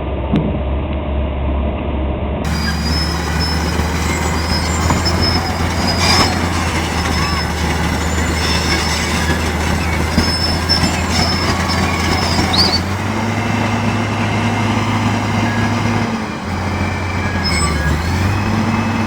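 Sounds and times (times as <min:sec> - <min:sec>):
diesel engine droning under load: 0:02.4 - 0:19.0.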